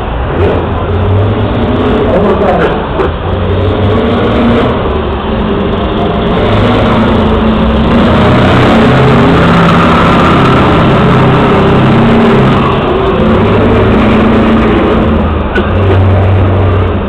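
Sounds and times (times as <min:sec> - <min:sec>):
heavy truck engine revving: 0:00.0 - 0:17.0.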